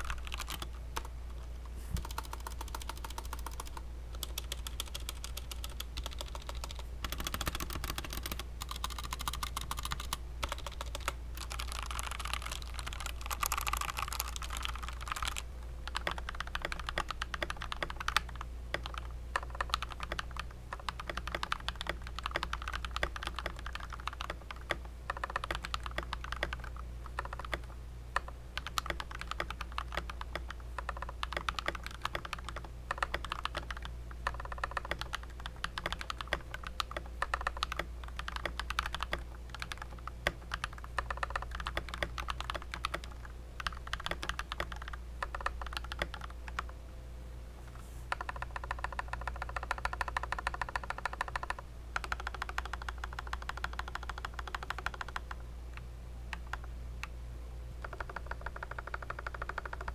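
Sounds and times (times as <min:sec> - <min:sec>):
fast mechanical keyboard typing: 0:00.0 - 0:01.1, 0:01.9 - 0:46.7, 0:48.1 - 0:55.4, 0:57.8 - 0:59.9.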